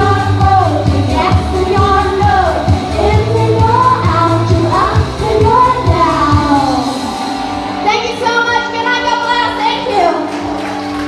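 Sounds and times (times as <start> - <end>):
woman singing pop song: 0.0 - 10.3.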